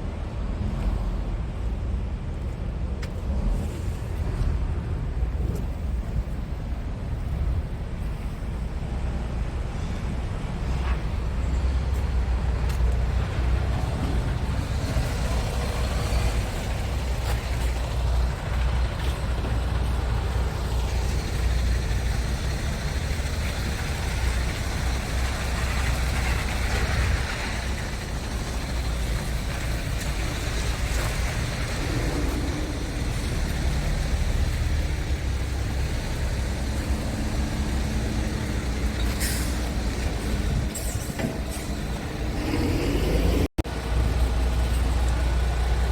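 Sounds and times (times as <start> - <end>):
truck diesel engine rumbling: 0.0 - 45.9.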